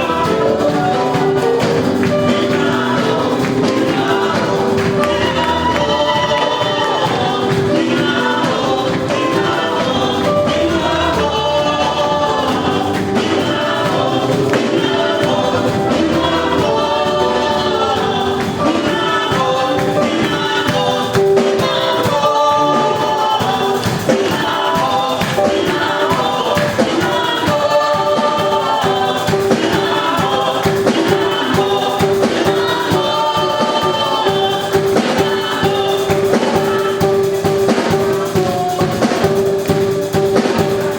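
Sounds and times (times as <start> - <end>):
band playing: 0.0 - 40.9
choir singing in harmony: 0.0 - 40.9
percussion strokes: 0.0 - 40.9.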